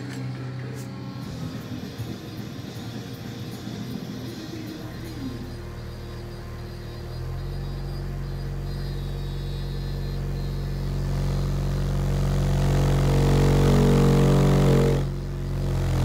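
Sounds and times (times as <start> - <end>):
subwoofer low test tone hum: 0.0 - 16.0.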